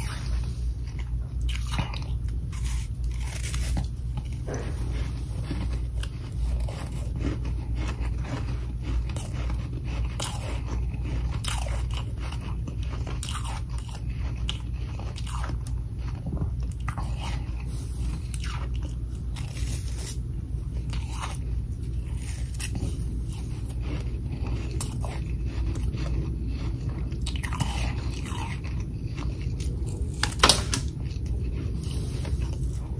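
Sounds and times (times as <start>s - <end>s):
crunching frost between teeth: 0.0s - 32.9s
steady low hum: 0.0s - 32.9s.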